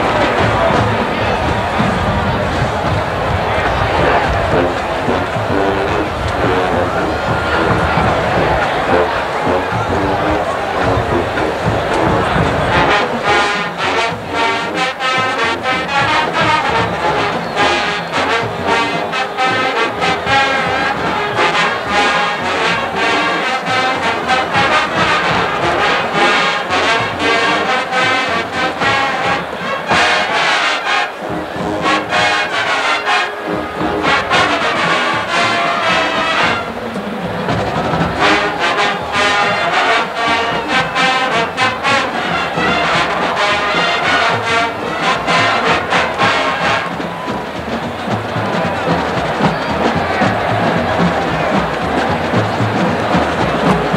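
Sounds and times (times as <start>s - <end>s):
steady drum beat: 0.0s - 30.4s, 33.4s - 53.9s
brass band playing swing tune: 0.0s - 53.9s.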